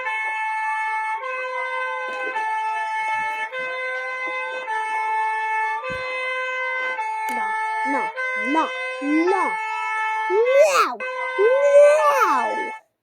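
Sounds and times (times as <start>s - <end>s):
alternating alarm tones: 0.5s - 13.0s
gliding siren tone: 1.2s - 12.8s.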